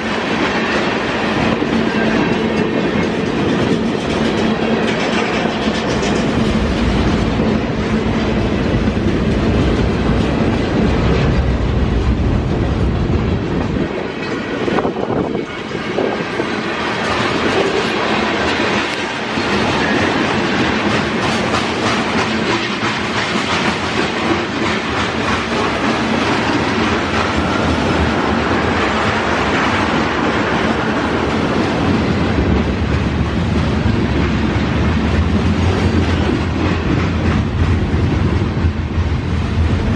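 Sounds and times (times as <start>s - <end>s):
train wheels clicking over rails: 0.0s - 39.9s.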